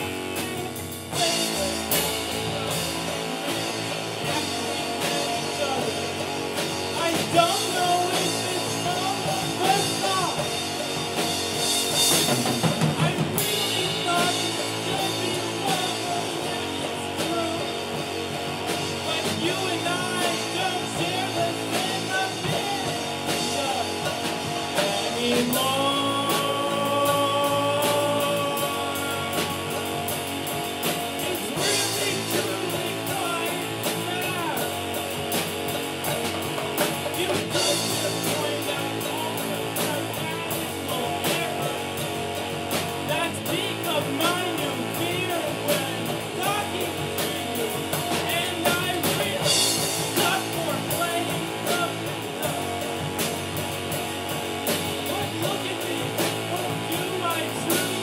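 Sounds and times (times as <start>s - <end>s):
person singing lead melody: 0.0s - 35.1s, 37.0s - 53.3s, 54.6s - 58.0s
live rock band playing: 0.0s - 58.0s.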